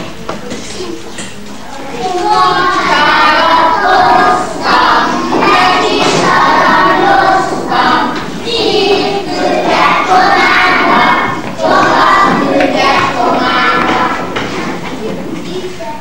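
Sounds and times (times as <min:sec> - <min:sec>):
children singing in unison: 0:01.8 - 0:15.8.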